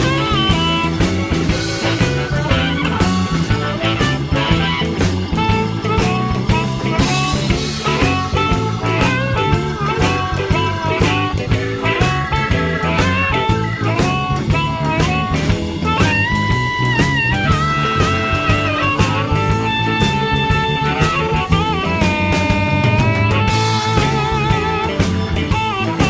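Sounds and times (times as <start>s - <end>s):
blues-rock guitar music: 0.0s - 26.0s
steady drum beat: 0.0s - 26.0s.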